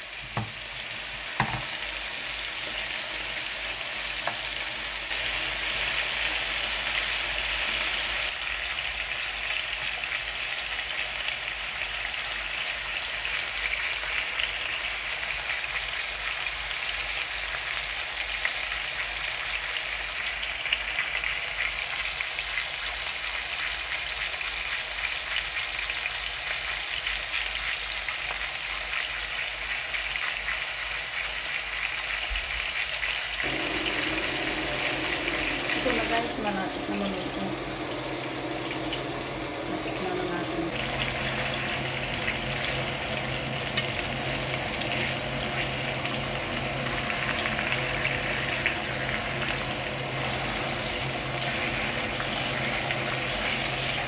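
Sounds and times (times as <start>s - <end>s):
chicken sizzling in a frying pan: 0.0s - 54.0s.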